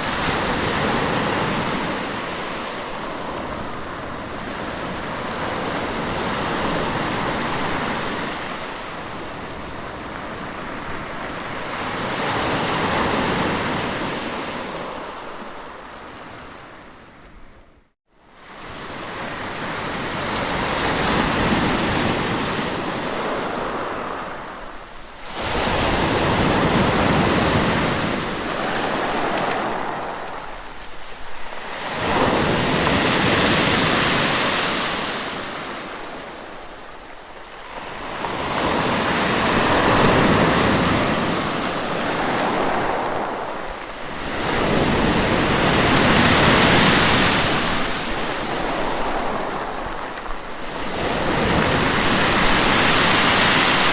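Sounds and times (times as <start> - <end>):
sea waves breaking on shore: 0.0 - 17.4, 18.3 - 53.9.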